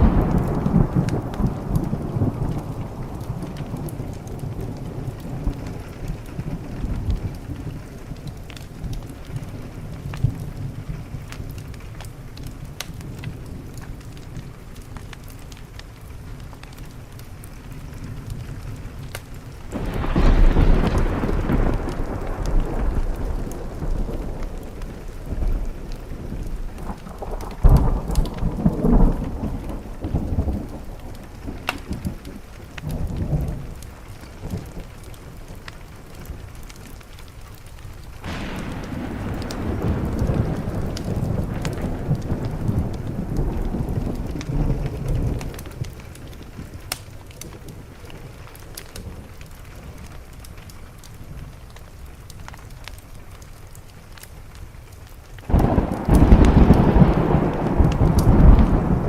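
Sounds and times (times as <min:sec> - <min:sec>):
thunder rumbling: 0:00.0 - 0:52.7, 0:54.6 - 0:59.0
rain against a window: 0:00.0 - 0:59.0.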